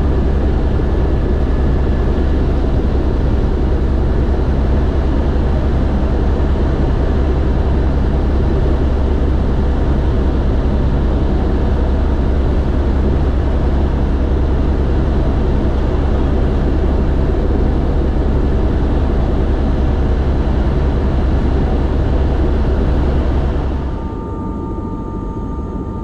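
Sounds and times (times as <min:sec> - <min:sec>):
helicopter rotor and turbine drone: 0:00.0 - 0:26.0.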